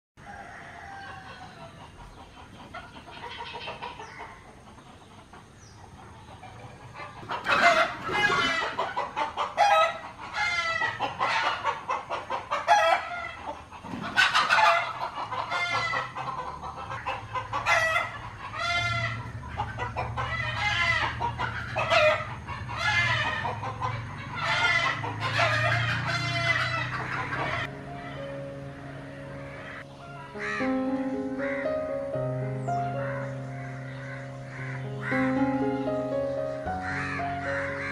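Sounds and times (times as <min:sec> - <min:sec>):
chickens clucking and cackling: 0:00.2 - 0:37.9.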